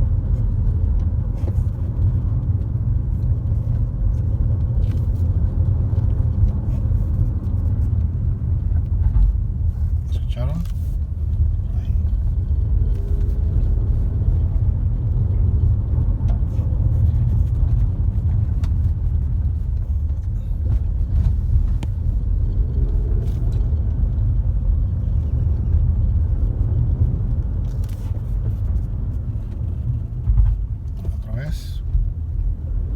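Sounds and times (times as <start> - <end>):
road and drivetrain rumble: 0.0 - 32.9.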